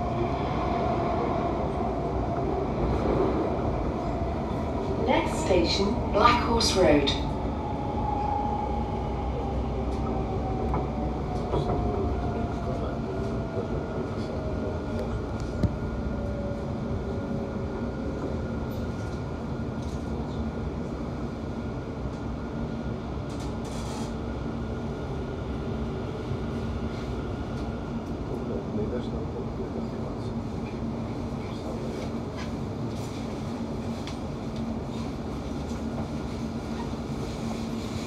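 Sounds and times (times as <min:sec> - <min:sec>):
train rumble and hum: 0:00.0 - 0:38.0.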